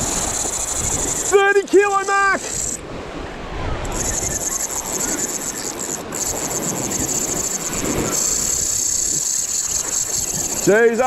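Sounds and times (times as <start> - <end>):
fishing reel drag buzzing: 0.0 - 3.0, 3.8 - 11.0
water and wind wash: 0.0 - 11.0.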